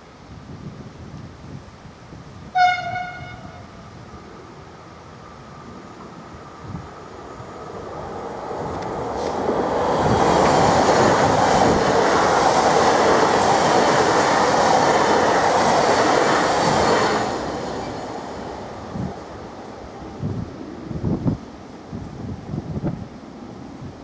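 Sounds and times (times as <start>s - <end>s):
train wheels rushing on rail: 2.5s - 24.0s.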